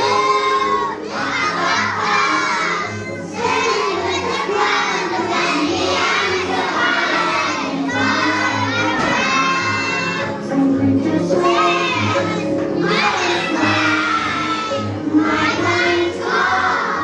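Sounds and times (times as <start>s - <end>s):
children singing in unison: 0.0s - 17.0s.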